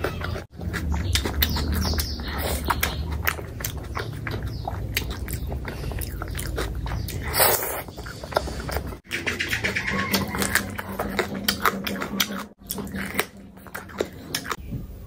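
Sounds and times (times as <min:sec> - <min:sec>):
wet chewing and smacking: 0:00.0 - 0:14.7.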